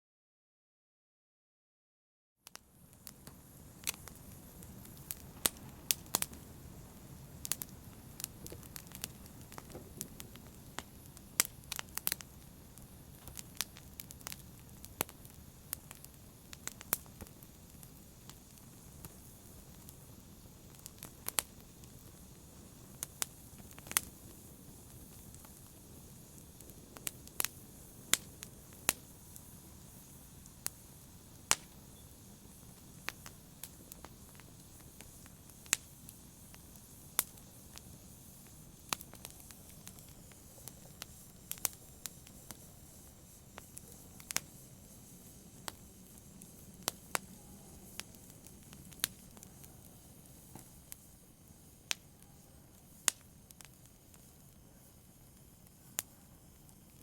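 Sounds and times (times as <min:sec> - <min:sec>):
low steady hiss: 0:02.5 - 0:57.0
wood fire crackling: 0:02.5 - 0:57.0.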